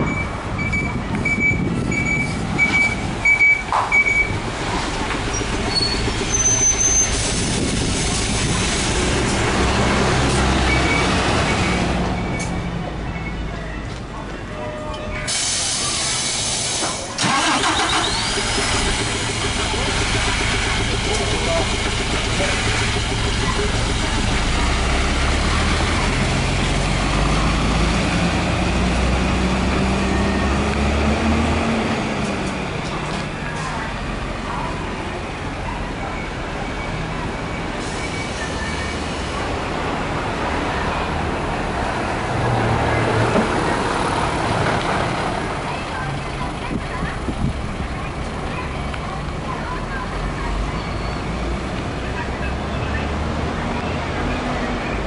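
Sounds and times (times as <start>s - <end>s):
bus diesel engine idling: 0.0s - 55.0s
bus driving past: 0.0s - 55.0s.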